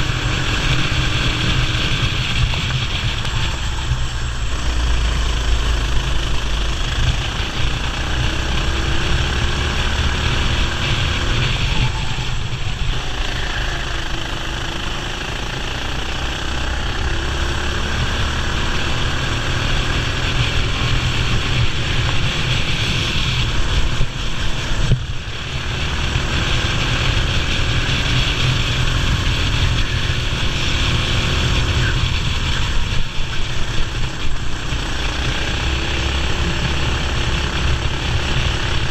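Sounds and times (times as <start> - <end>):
racing kart engine revving: 0.0 - 38.9.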